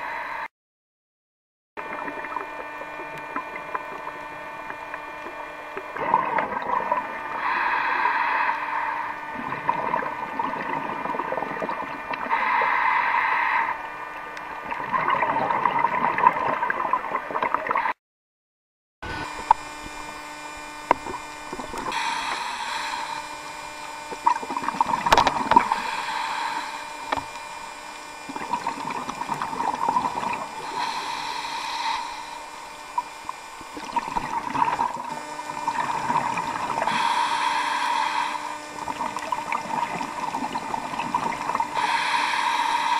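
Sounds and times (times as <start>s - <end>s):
regulator breathing and bubbles: 1.8s - 18.0s, 19.1s - 42.9s.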